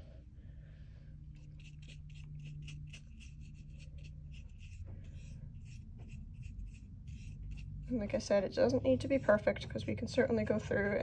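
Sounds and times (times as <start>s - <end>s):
steady low hum: 0.0s - 11.0s
paintbrush scratching on canvas: 1.4s - 11.0s.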